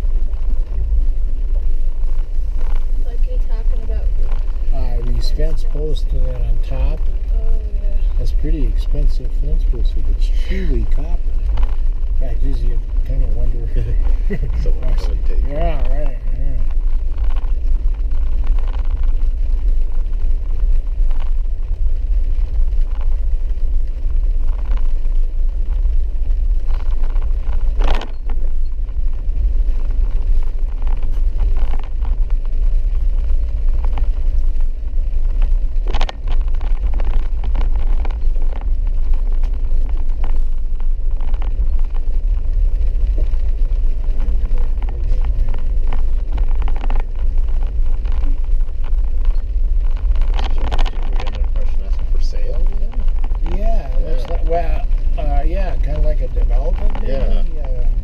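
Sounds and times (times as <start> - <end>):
vehicle rumbling on dirt road: 0.0 - 58.0.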